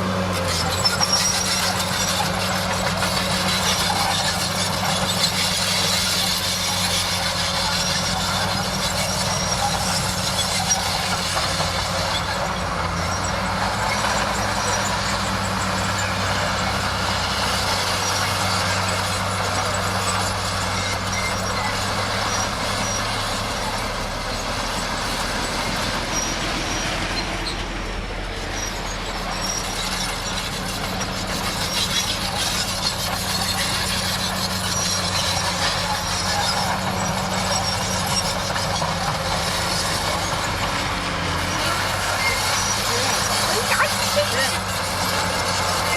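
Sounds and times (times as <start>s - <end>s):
diesel engine hum: 0.0s - 45.9s.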